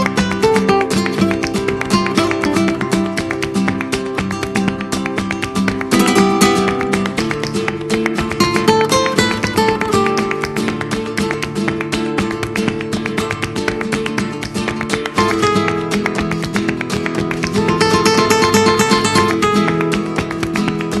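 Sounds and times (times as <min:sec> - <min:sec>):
flamenco acoustic guitar music: 0:00.0 - 0:21.0.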